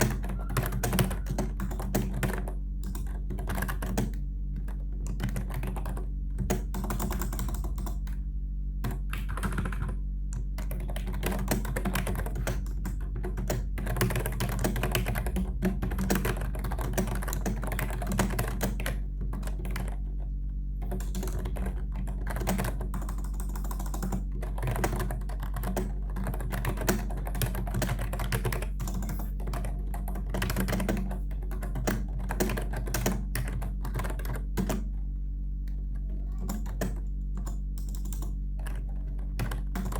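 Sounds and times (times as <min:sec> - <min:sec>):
keyboard typing clicks: 0:00.0 - 0:08.2, 0:08.8 - 0:20.0, 0:20.8 - 0:34.9, 0:35.6 - 0:39.9
steady low hum: 0:00.0 - 0:39.9.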